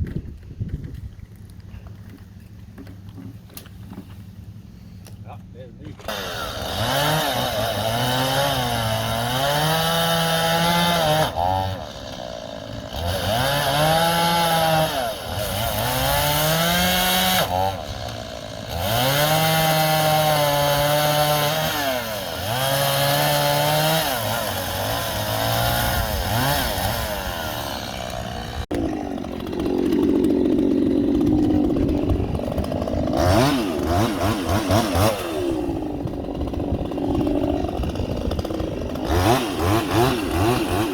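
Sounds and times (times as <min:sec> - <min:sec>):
chainsaw cutting into tree: 0:06.0 - 0:40.9.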